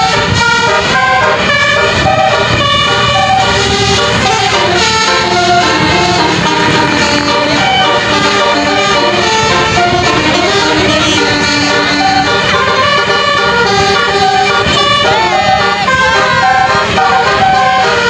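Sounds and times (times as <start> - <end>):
bus engine running: 0.0 - 18.0
bus horns playing a tune: 0.0 - 18.0.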